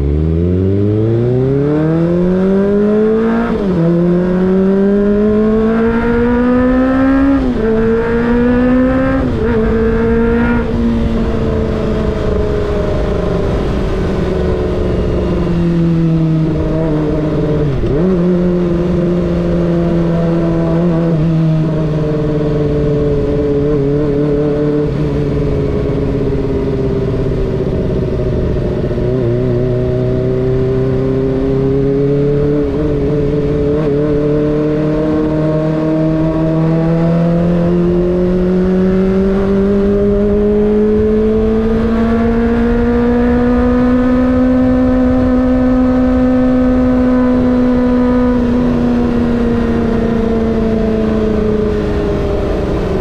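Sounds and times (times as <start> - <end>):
motorcycle engine accelerating: 0.0 - 53.0
wind and road noise: 0.0 - 53.0.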